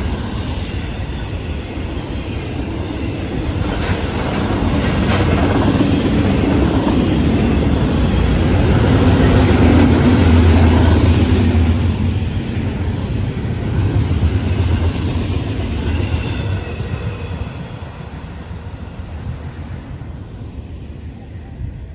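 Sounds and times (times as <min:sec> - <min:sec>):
freight train wheels rumbling: 0:00.0 - 0:21.9.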